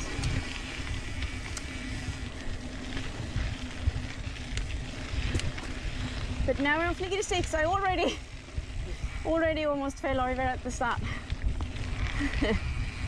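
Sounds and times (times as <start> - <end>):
bike clicks and rattles: 0.0 - 13.0
bike rolling on dirt trail: 0.0 - 13.0
low hum: 0.0 - 13.0
wind buffeting microphone: 0.0 - 13.0.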